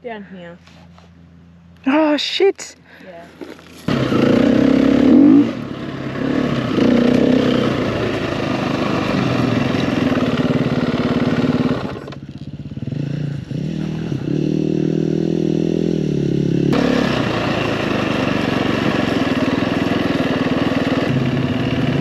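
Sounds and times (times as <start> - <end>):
dirt bike engine revving: 3.5 - 22.0.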